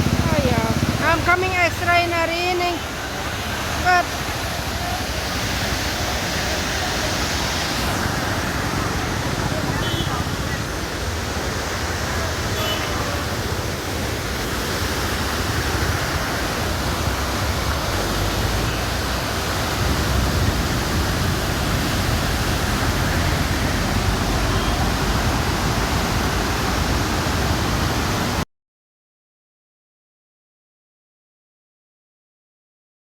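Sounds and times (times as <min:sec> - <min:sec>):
waterfall rushing: 0:00.0 - 0:28.4.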